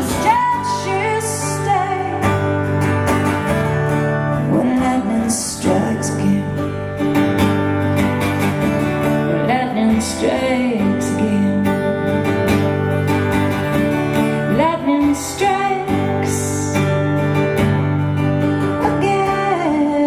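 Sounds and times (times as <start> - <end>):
acoustic guitar: 0.0 - 20.0
bass: 0.0 - 20.0.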